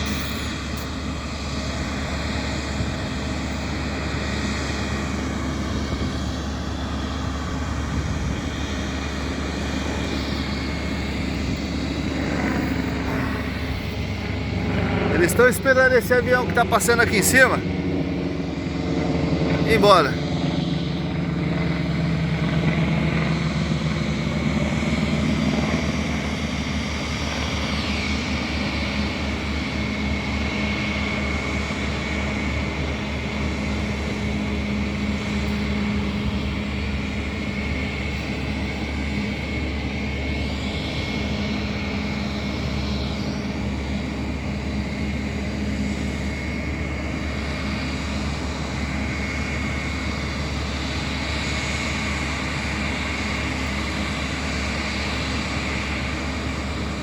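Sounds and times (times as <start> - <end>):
aircraft engines droning: 0.0 - 57.0
high engine whine: 0.0 - 57.0.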